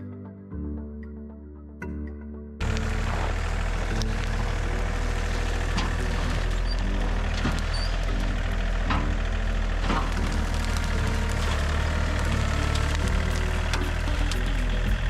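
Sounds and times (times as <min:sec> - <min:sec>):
tractor diesel engine running: 0:02.6 - 0:15.0
wood snapping: 0:02.6 - 0:15.0.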